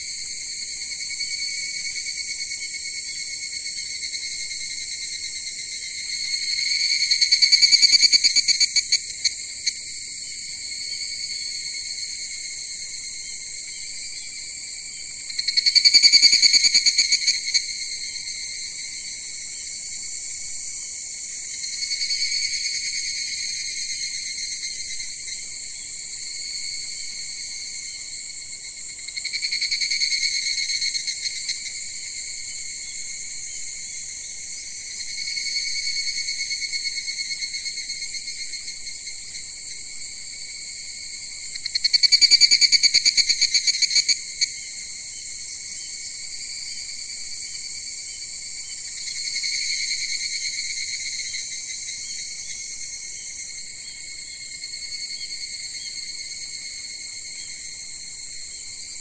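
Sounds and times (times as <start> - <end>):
insects trilling: 0.0 - 59.0
pulsing insect call: 0.0 - 59.0.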